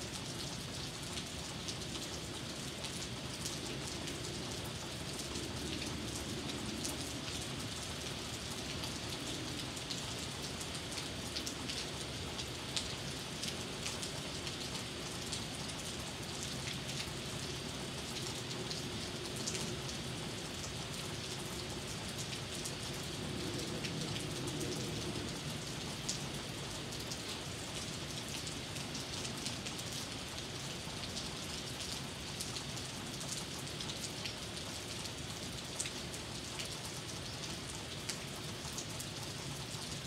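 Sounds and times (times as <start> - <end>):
rain hiss: 0.0 - 40.0.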